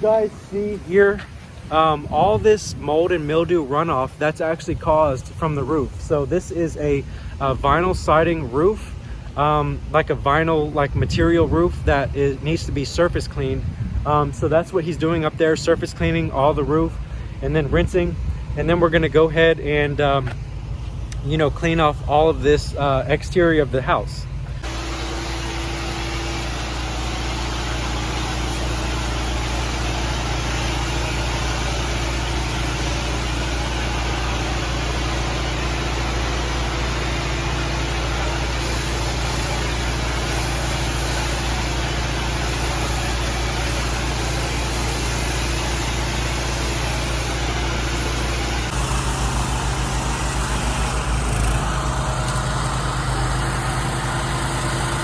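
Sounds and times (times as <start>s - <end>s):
constant hiss: 0.0s - 55.0s
pressure washer engine running: 0.0s - 55.0s.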